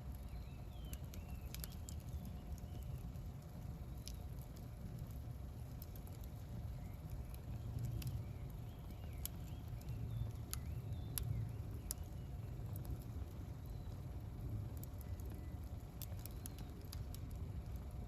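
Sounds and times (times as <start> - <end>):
campfire crackling and popping: 0.0 - 18.0
low fire rumble: 0.0 - 18.0.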